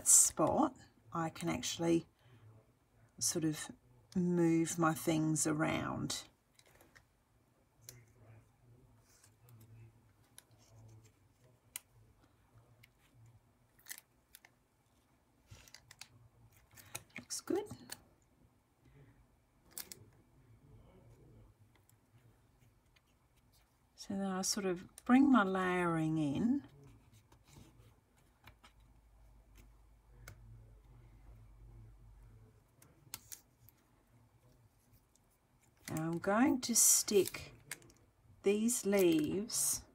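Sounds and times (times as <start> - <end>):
low room hum: 0.0 - 39.9.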